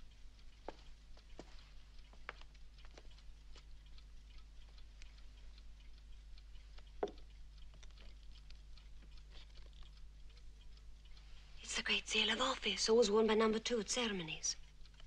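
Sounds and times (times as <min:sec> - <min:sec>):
clocks ticking: 0:00.0 - 0:15.0.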